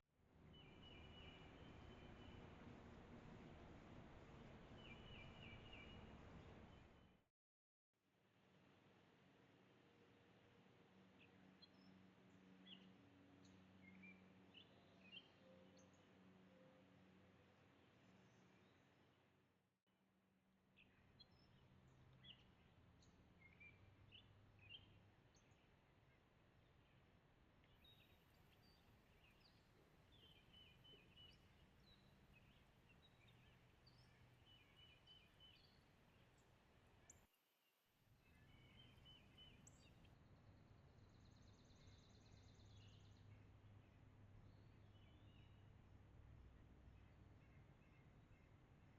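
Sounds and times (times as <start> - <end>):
songbird chirps: 0.5 - 7.1, 11.0 - 19.2, 20.8 - 45.8.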